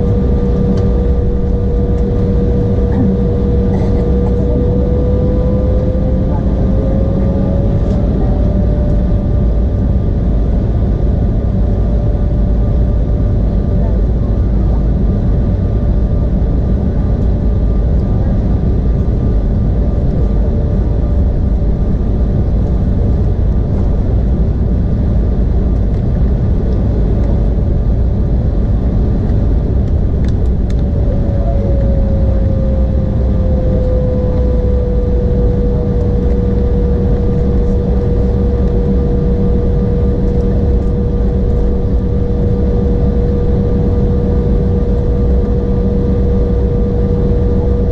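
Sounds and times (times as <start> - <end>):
aircraft cabin engine rumble and whine: 0.0 - 47.9.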